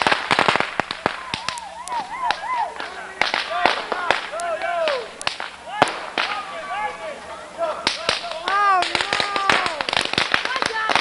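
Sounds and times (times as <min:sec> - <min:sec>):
firecrackers cracking: 0:00.0 - 0:11.0.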